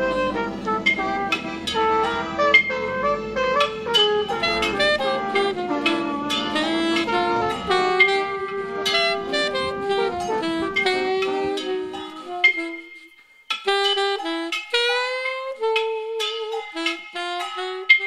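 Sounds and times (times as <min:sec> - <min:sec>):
instrumental melody: 0:00.0 - 0:18.0
low accompaniment: 0:00.0 - 0:18.0.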